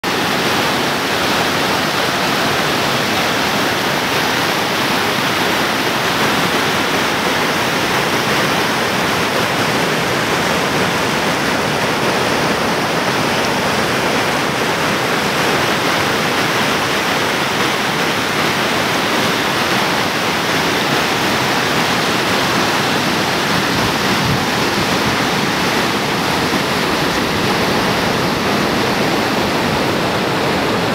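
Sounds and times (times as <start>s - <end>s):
river rapids rushing: 0.0s - 30.9s.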